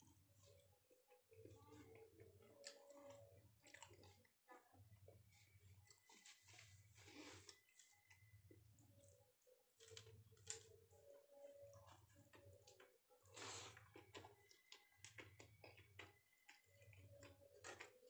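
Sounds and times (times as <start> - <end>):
soft chewing: 0.0 - 18.0.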